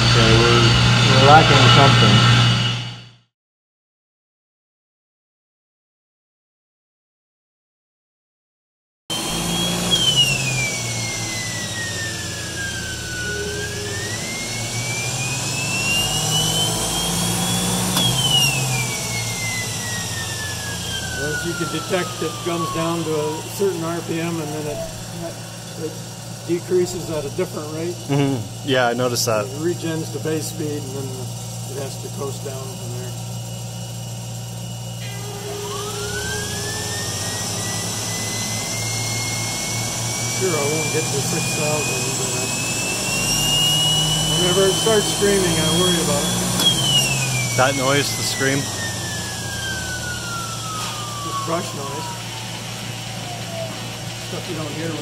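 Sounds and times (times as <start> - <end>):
steady low hum: 0.0 - 3.0, 9.3 - 55.0
electric motor whine: 0.0 - 3.2, 9.1 - 55.0.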